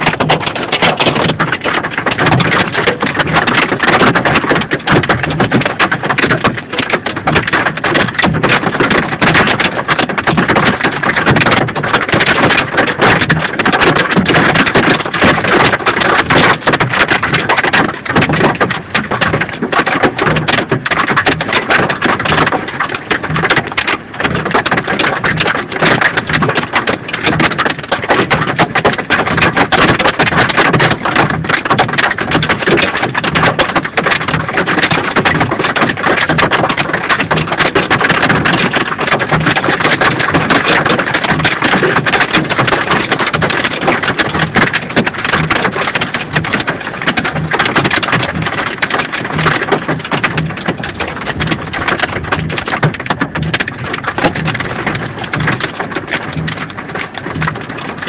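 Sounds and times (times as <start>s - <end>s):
hail and rain on vehicle roof: 0.0s - 58.0s.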